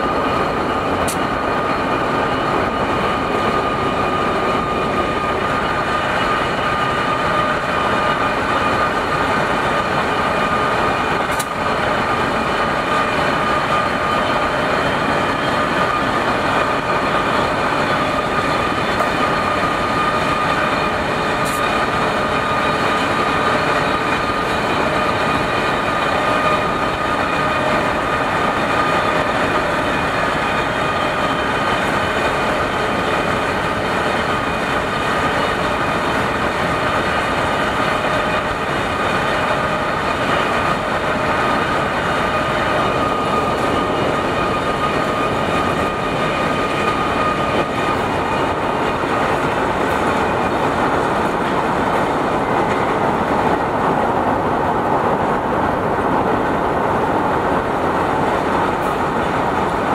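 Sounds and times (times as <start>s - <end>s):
diesel locomotive droning: 0.0s - 59.9s
road and wind noise: 0.0s - 59.9s.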